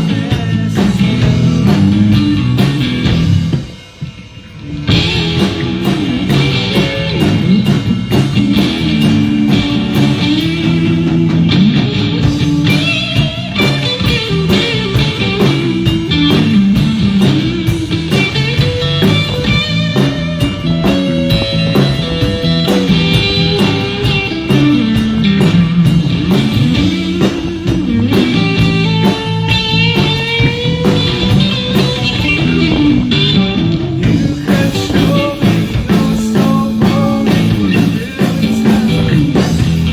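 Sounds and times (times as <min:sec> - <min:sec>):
guitar melody: 0:00.0 - 0:03.8, 0:04.5 - 0:39.9
bass: 0:00.0 - 0:39.9
drum kit: 0:00.0 - 0:39.9.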